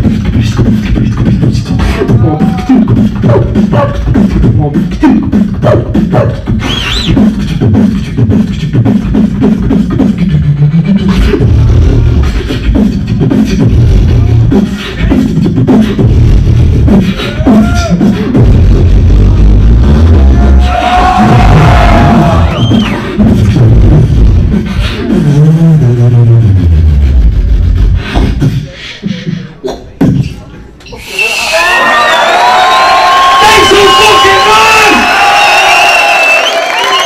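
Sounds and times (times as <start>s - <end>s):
beatboxing through microphone: 0.0s - 31.6s.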